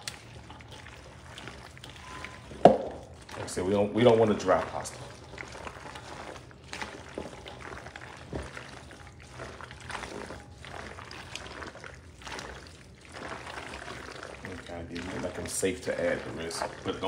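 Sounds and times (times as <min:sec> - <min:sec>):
wet squelching pasta mixing: 0:00.0 - 0:17.0.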